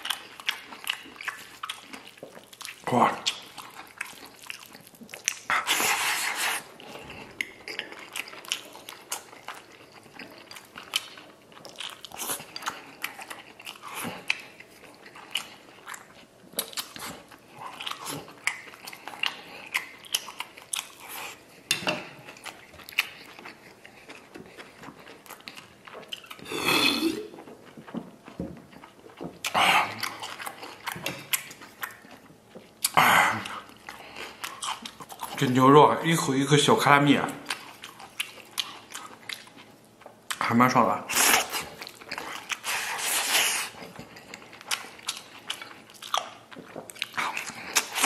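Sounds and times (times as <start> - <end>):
wet chewing with lip smacks: 0.0 - 26.5, 27.2 - 35.6, 37.4 - 40.5, 41.1 - 48.0.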